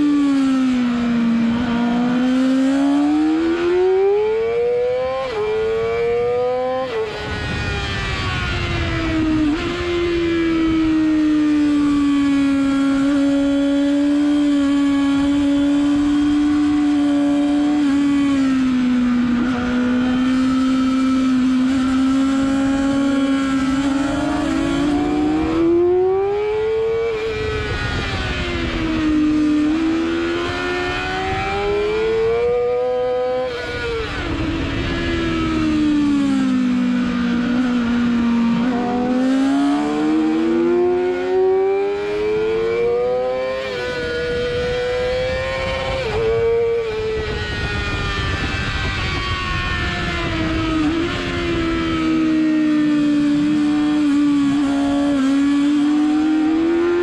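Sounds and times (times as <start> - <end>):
motorcycle engine running hard: 0.0 - 57.0
wind rush on microphone: 4.7 - 57.0.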